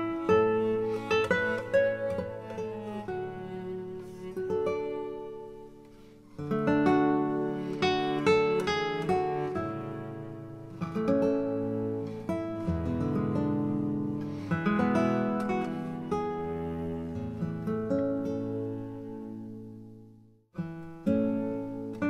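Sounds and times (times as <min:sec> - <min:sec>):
acoustic guitar picking: 0:00.0 - 0:20.0, 0:20.6 - 0:22.0.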